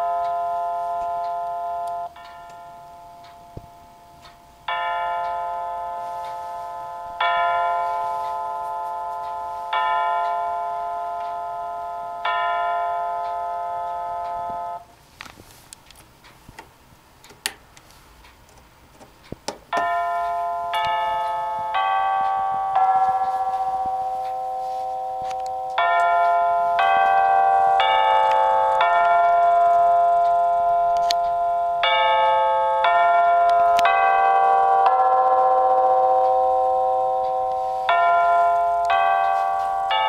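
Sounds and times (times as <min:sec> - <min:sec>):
wall clock chime: 0:00.0 - 0:15.7, 0:19.6 - 0:40.0.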